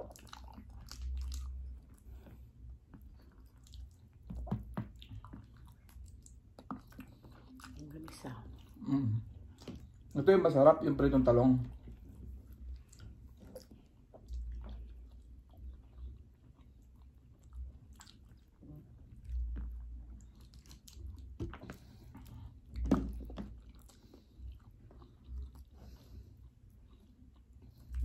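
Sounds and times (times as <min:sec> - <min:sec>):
chewing and mouth sounds: 0:00.0 - 0:28.0.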